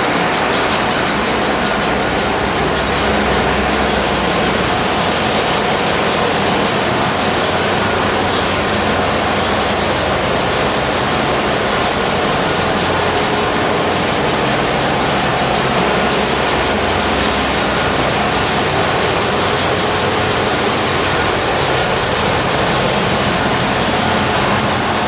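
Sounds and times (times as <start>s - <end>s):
engine-room machinery din: 0.0s - 25.0s.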